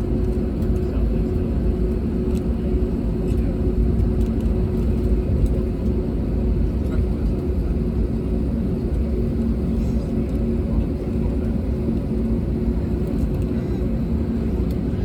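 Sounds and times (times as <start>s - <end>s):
aircraft cabin low rumble: 0.0s - 15.0s.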